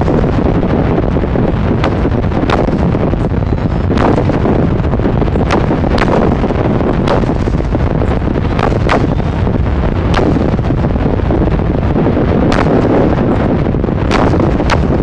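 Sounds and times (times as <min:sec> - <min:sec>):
firework shells booming: 0:00.0 - 0:15.0
sharp firework cracks: 0:00.0 - 0:15.0.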